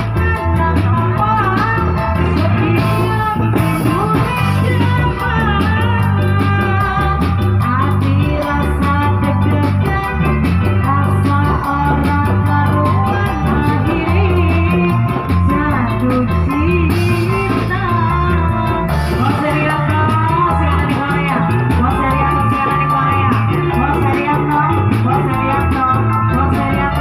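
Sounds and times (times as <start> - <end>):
guitar: 0.0 - 27.0
person singing: 0.0 - 27.0
repeating bass line: 0.0 - 27.0
steady beat: 0.0 - 27.0.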